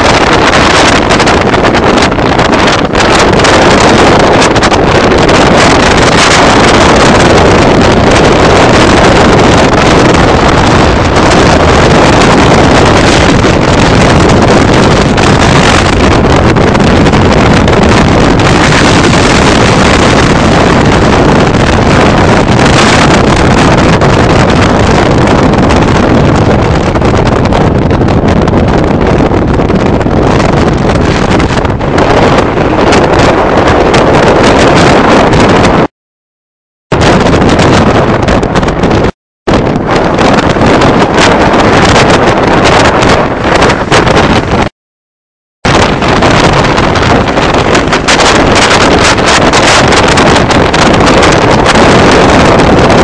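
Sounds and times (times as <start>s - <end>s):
wind rushing over microphone: 0.0s - 35.9s, 36.9s - 44.8s, 45.6s - 53.0s.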